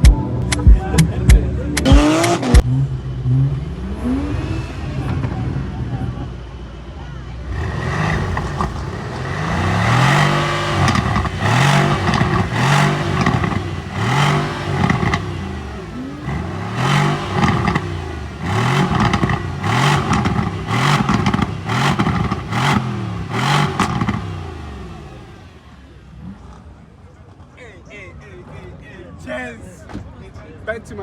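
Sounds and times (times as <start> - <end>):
exhaust crackles: 0.0 - 27.6
car engine revving: 1.6 - 27.0.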